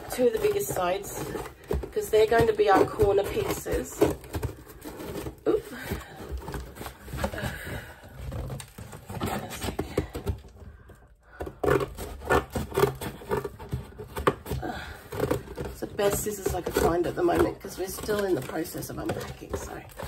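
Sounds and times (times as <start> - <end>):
cardboard scraping and crackling: 0.0 - 20.0.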